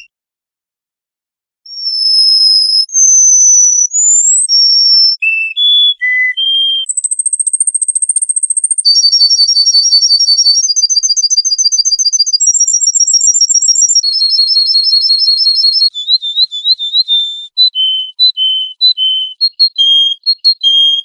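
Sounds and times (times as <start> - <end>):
fast bird trill: 1.7 - 21.0
songbird singing whistled notes: 1.7 - 21.0.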